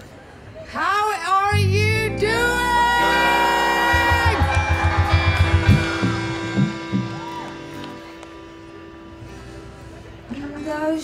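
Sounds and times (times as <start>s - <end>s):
bass and drums rhythm: 1.6s - 10.5s.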